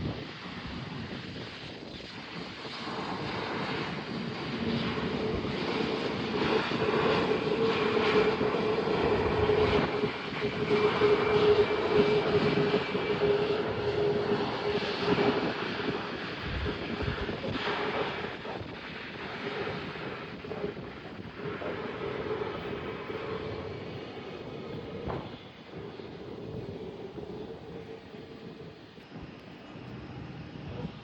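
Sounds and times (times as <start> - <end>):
airliner engines droning: 0.0 - 31.0.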